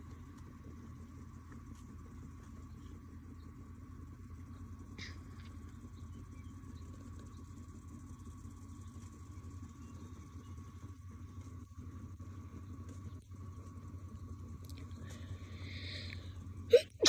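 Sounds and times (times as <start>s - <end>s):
horse hooves on soft dirt: 0.0s - 15.6s.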